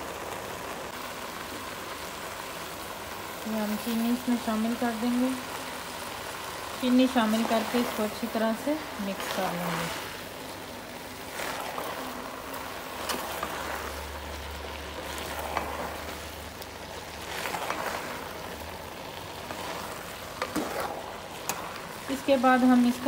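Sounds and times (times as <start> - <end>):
cooking mixture hissing: 0.0 - 23.0.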